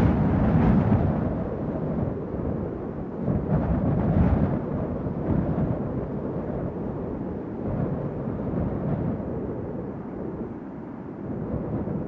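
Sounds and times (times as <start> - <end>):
strong wind gusts: 0.0 - 12.0.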